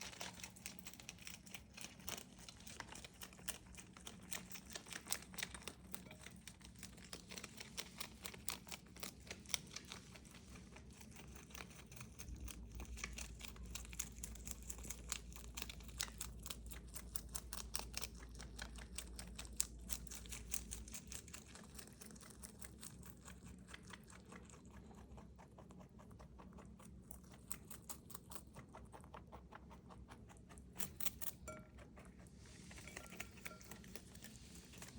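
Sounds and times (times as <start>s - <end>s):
rabbit chewing crisp greens: 0.0s - 34.9s.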